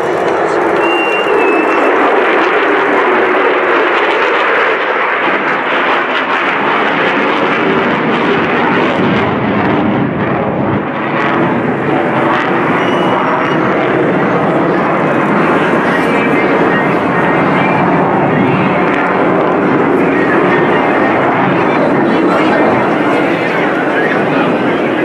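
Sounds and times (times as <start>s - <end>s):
jet engine roaring overhead: 0.0s - 25.0s.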